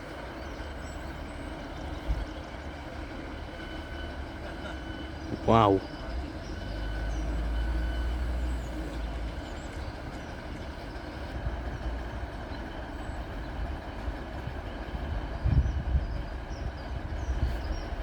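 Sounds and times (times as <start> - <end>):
diesel train rumble: 0.0 - 18.0.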